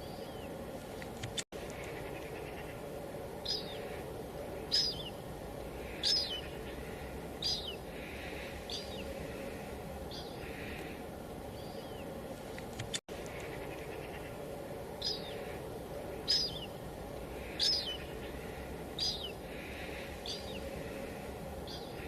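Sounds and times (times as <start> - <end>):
bird chirping: 0.0 - 0.6, 1.2 - 22.0
light rain hissing: 0.0 - 22.0.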